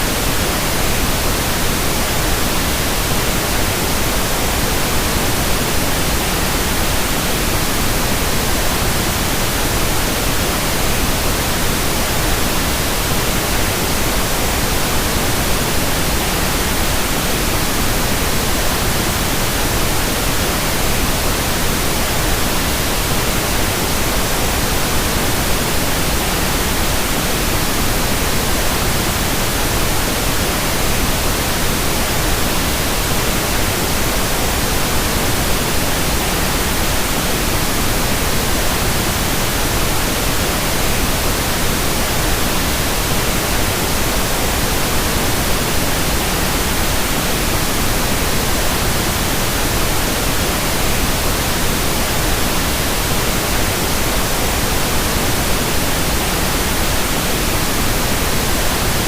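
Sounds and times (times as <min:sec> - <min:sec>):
steady broadband hiss: 0:00.0 - 0:59.0.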